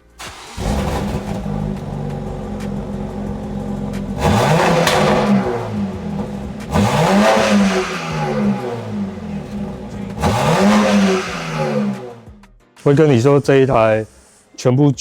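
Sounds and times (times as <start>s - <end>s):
car engine accelerating: 0.2s - 12.4s.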